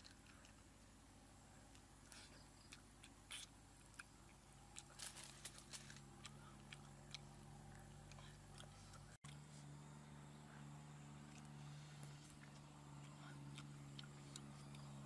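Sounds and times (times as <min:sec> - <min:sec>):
steady low hum: 0:00.0 - 0:15.0
chewing and biting food: 0:01.7 - 0:09.8, 0:10.7 - 0:15.0.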